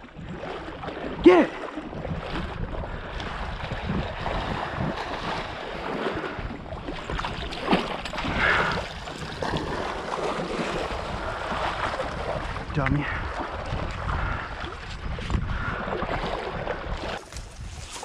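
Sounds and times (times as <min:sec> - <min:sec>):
water splashing in shallow water: 0:00.0 - 0:18.0
wind on microphone: 0:00.0 - 0:18.0.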